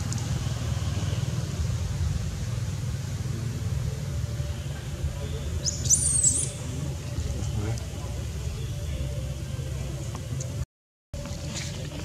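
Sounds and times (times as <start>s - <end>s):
low outdoor rumble: 0.0s - 10.6s, 11.2s - 12.0s.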